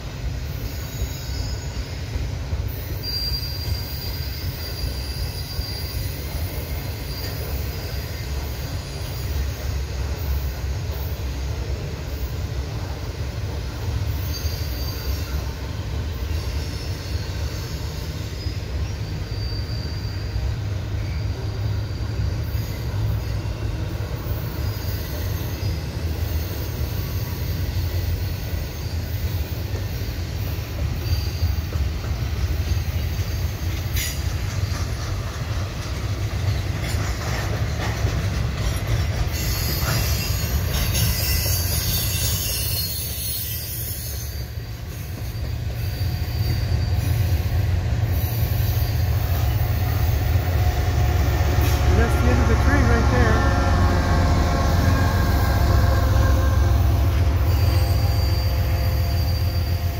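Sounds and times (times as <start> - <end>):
diesel locomotive: 0.0 - 59.9
train wheels rumbling on rail: 0.0 - 59.9
wheel flange squeal: 0.5 - 2.0, 2.7 - 11.1, 14.1 - 31.8, 38.7 - 52.5, 53.4 - 59.9.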